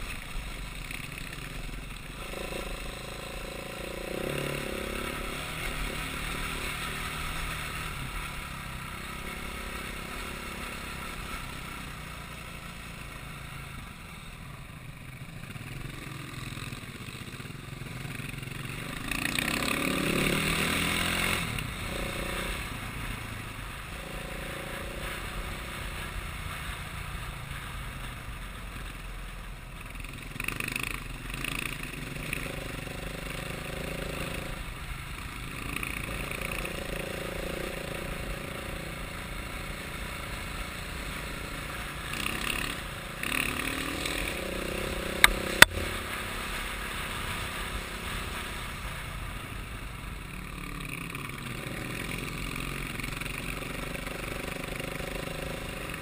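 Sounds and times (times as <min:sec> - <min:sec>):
motor vehicle running: 0:00.0 - 0:56.0.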